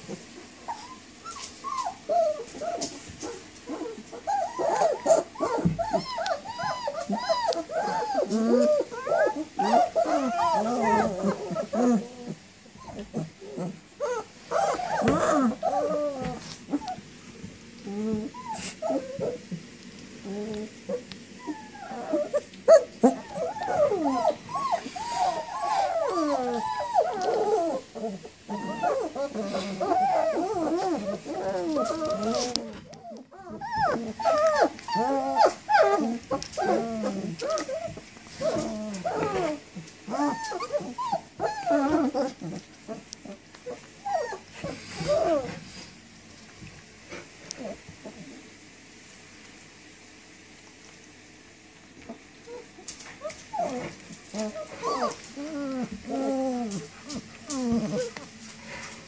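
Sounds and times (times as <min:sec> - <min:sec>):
puppies whining and yelping: 0:00.0 - 0:17.1, 0:17.8 - 0:19.6, 0:20.2 - 0:45.9, 0:47.5 - 0:48.5, 0:52.0 - 0:59.0.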